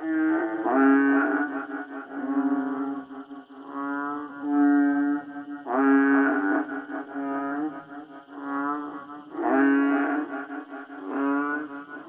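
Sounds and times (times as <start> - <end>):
toad calling: 0.0 - 12.0.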